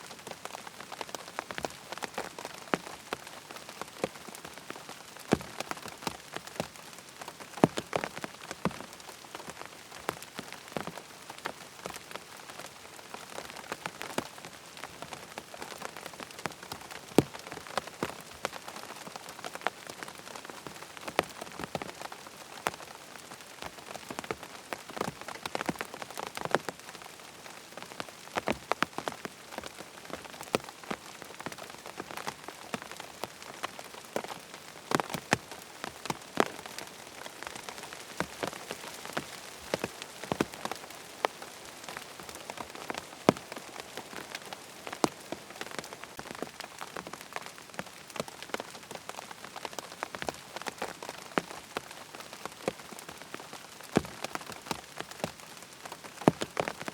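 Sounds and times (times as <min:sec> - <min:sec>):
rain hissing: 0:00.0 - 0:49.8
raindrops tapping on tent fabric: 0:00.0 - 0:56.9.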